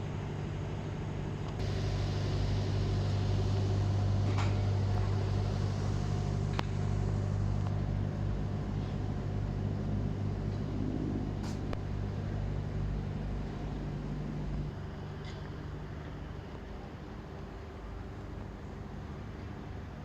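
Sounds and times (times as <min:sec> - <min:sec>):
locomotive engine humming: 0:00.0 - 0:20.0.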